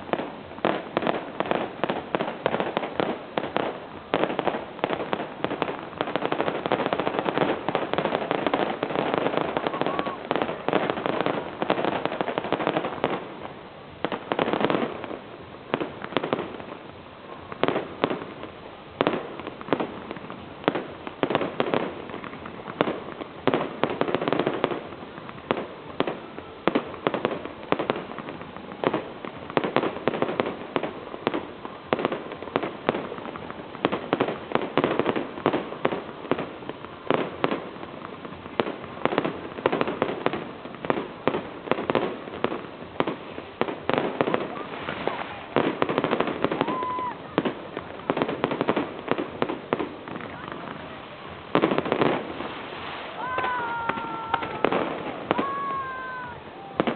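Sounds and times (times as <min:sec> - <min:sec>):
fireworks bangs and cracks: 0:00.0 - 0:56.9.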